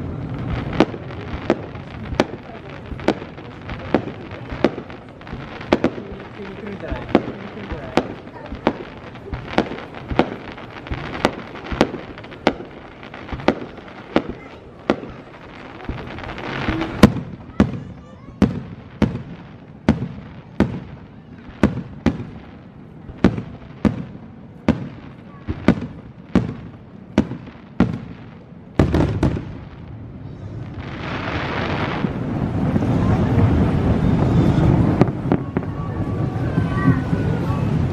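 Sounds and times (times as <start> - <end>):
fireworks bursting: 0.0 - 37.9.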